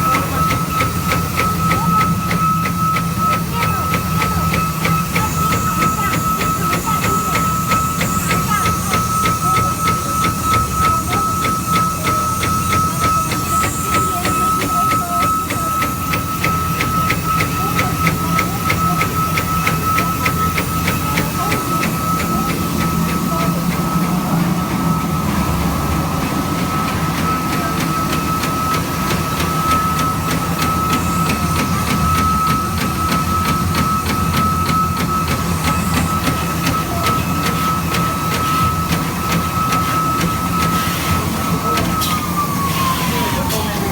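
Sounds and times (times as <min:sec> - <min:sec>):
high spindle whine: 0:00.0 - 0:43.9.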